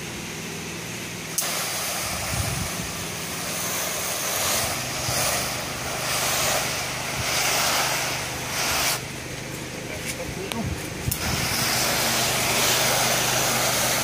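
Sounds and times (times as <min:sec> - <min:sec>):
motor hum: 0:00.0 - 0:14.0
sprayer hissing: 0:01.2 - 0:14.0.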